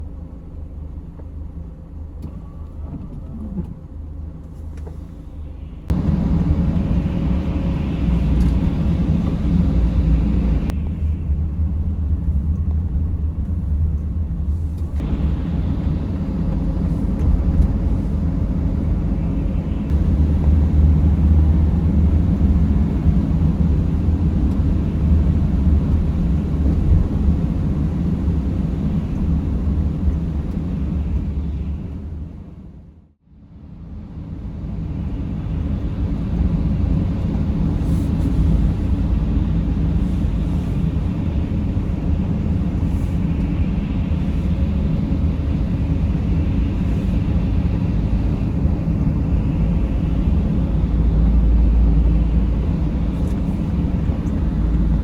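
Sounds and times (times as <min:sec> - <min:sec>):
engine and road rumble: 0:00.0 - 0:55.0.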